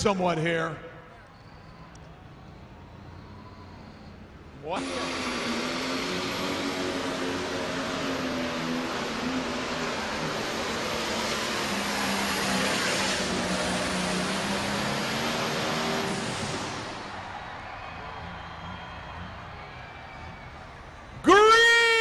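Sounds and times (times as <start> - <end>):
loud diesel tractor engine: 1.5 - 22.0.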